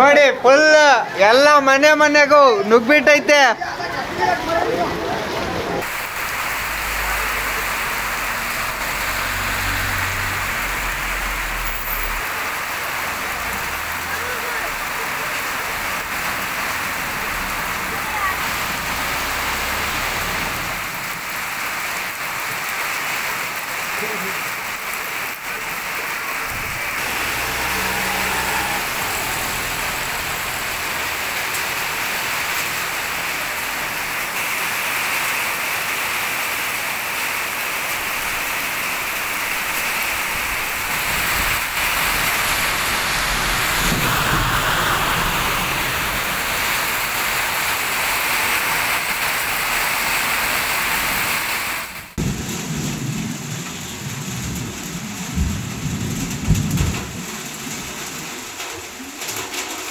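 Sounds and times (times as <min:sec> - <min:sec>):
heavy rain on pavement: 0:00.0 - 0:59.9
vehicle passing through rain: 0:00.0 - 0:59.9.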